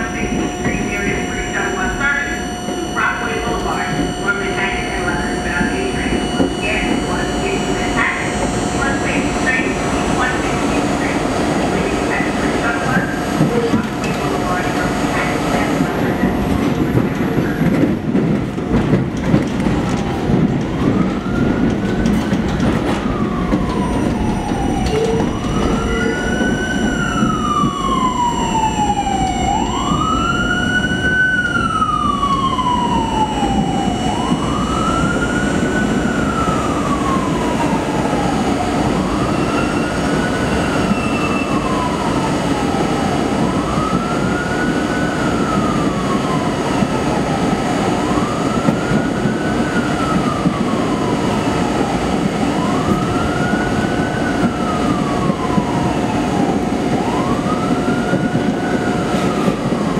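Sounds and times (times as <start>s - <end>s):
siren wailing: 0.0s - 18.6s, 19.5s - 59.9s
subway train rumbling: 0.0s - 59.9s.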